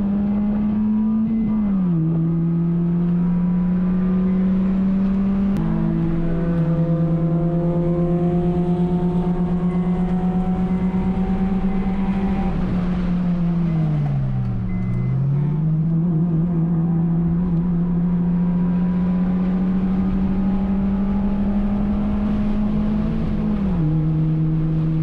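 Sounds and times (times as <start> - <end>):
car engine revving high: 0.0 - 25.0.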